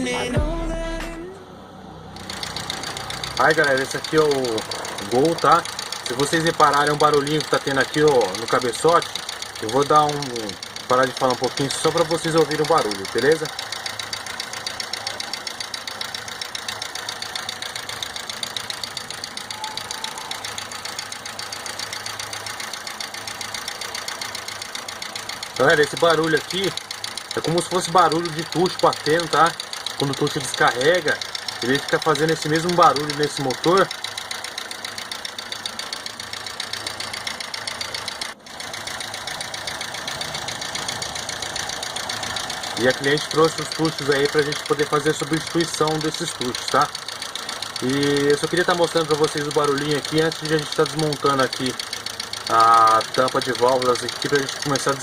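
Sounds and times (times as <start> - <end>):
car engine idling: 0.0 - 55.0
fast even ticking from engine: 2.0 - 55.0.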